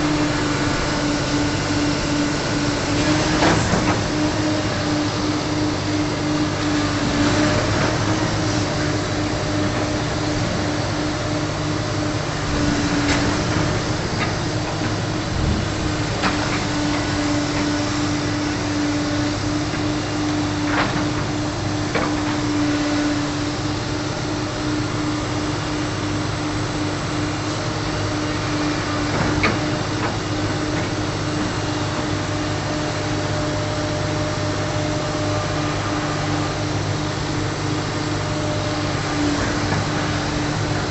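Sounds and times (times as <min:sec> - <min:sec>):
heavy machine engine running: 0:00.0 - 0:40.9.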